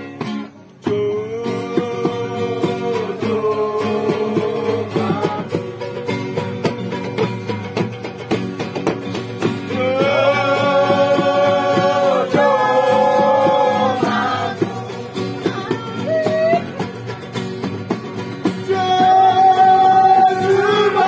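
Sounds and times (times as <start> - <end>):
acoustic guitars strumming: 0.0 - 21.0.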